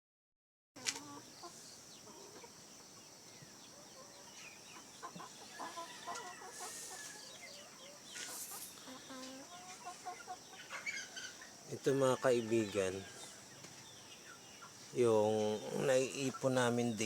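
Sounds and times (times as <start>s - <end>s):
chickens clucking: 0.8s - 17.0s.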